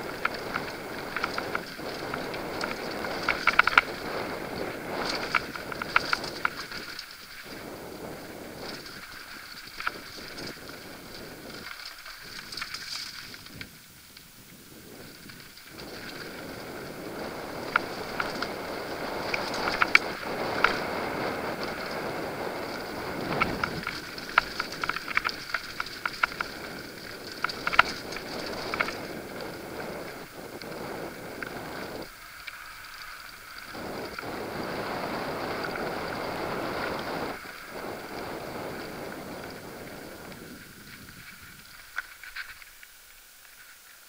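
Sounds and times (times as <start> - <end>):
wind on microphone: 0.0 - 32.2, 33.2 - 41.8
tyres rolling over gravel: 0.0 - 43.0
bike clicks and rattles: 0.0 - 44.0.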